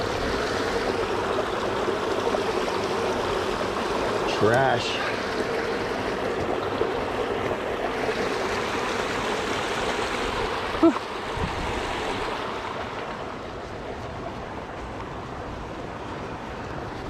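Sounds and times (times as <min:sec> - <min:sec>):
creek babbling: 0:00.0 - 0:17.0.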